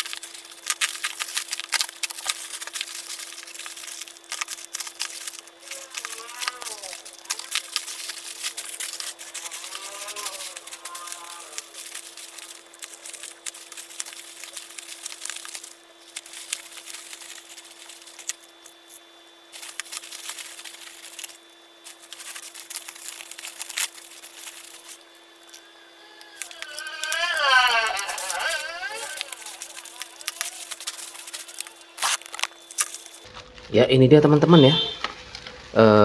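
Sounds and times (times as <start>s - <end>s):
plastic bag and bubble wrap crinkling: 0.0s - 36.0s.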